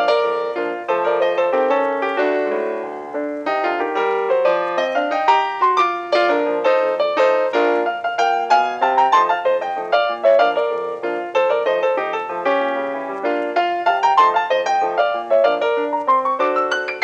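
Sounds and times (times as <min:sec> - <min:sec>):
lively piano music: 0:00.0 - 0:17.0.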